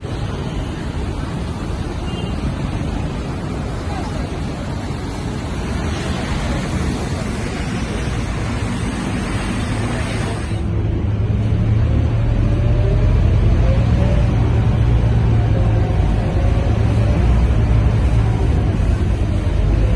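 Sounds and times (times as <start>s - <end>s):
bus diesel engine drone: 0.0s - 19.9s
road and wind noise: 0.0s - 19.9s.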